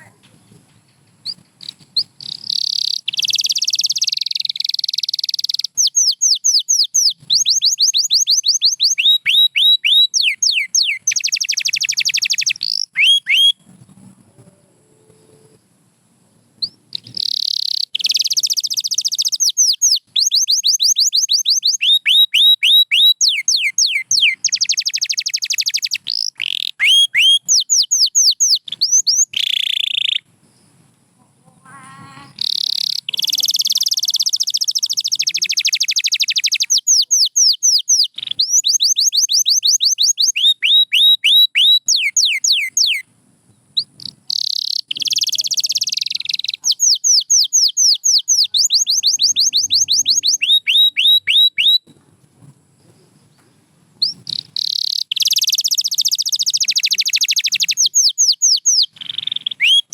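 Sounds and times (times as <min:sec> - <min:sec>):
canary singing trills: 0:01.2 - 0:13.8, 0:16.6 - 0:30.3, 0:31.5 - 0:43.1, 0:43.7 - 0:51.9, 0:54.0 - 0:59.9.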